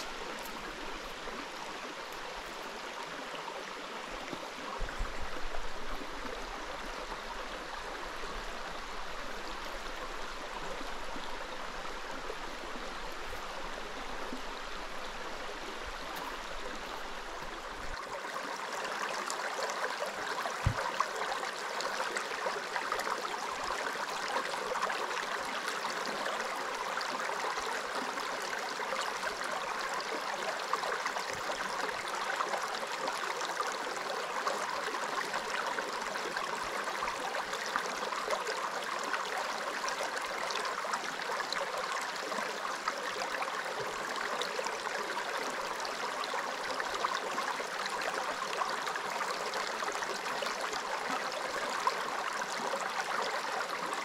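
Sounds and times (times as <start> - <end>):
creek water rushing over rocks: 0.0 - 54.0.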